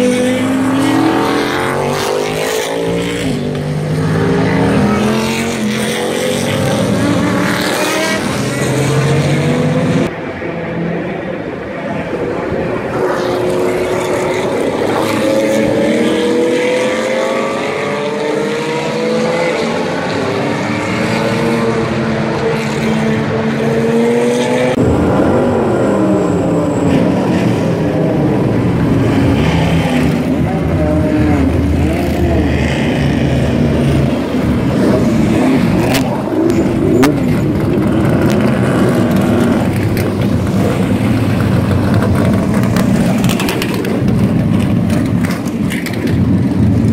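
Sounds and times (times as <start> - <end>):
race car engines passing: 0.0 - 46.9
race car engines rumbling at low revs: 0.0 - 46.9.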